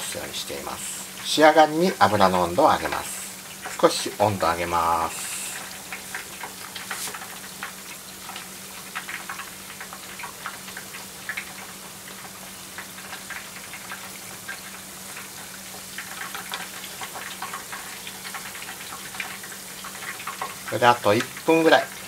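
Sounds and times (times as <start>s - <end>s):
chicken deep-frying in oil: 0.0s - 22.0s
oil crackling pops: 2.8s - 22.0s.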